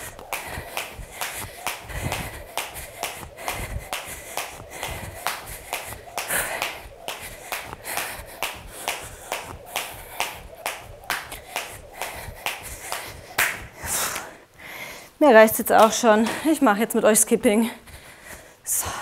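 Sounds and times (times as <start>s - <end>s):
jump rope slapping floor mat: 0.0s - 14.3s, 15.6s - 16.6s.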